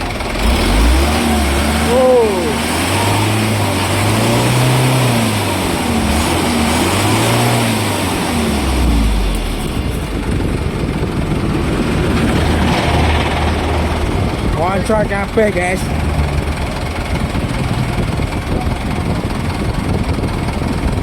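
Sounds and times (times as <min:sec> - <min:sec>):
bus diesel engine revving and idling: 0:00.0 - 0:21.0.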